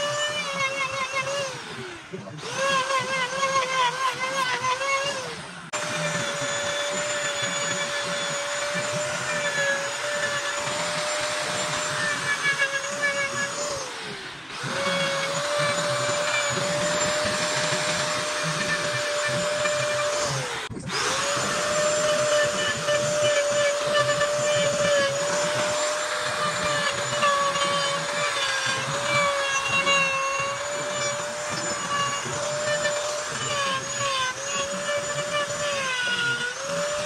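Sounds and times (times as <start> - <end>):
electric carving tool whining: 0.0 - 37.0.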